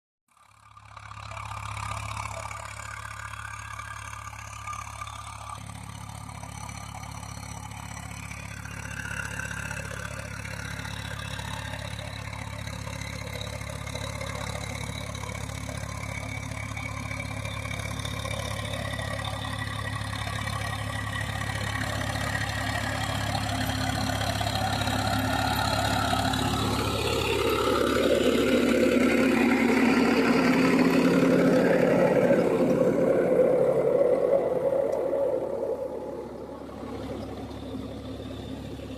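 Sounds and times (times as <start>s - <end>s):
tractor diesel engine running: 0.3s - 38.9s.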